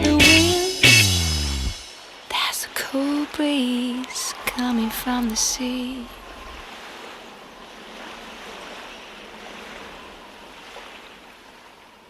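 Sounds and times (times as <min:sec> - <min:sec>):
ocean waves washing: 0:00.2 - 0:12.0.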